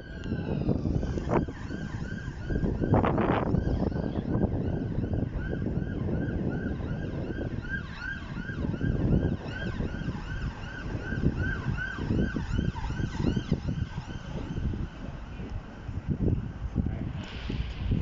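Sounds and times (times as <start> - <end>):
level crossing yodel alarm: 0.0 - 15.0
wind buffeting microphone: 0.0 - 18.0.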